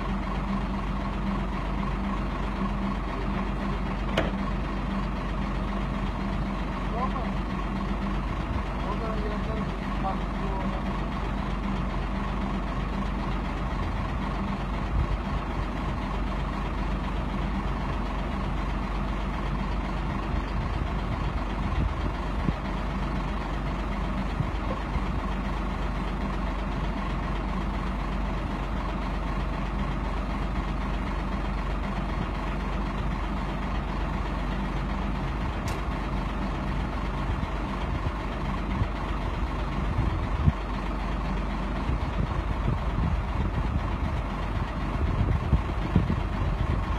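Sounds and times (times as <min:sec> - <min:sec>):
crane engine humming: 0:00.0 - 0:46.9.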